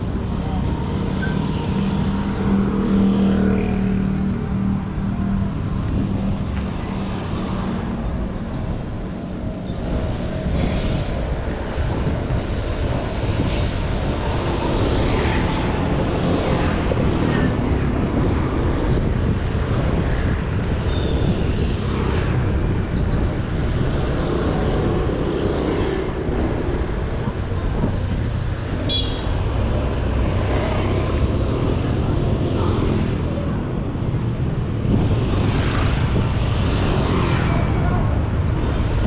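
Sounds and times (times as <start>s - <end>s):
passing traffic: 0.0s - 39.0s.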